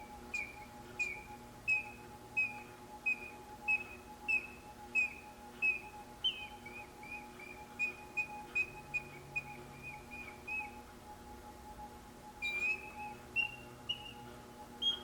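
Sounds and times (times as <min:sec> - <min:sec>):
mechanical bird chirps: 0:00.0 - 0:10.9, 0:12.4 - 0:15.0
faint mechanism hum: 0:00.0 - 0:15.0.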